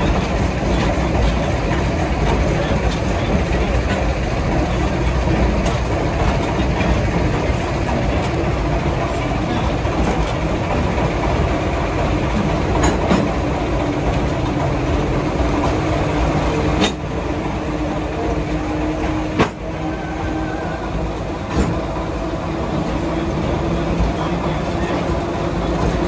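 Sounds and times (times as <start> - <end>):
diesel engine and wheels rumbling: 0.0 - 26.0.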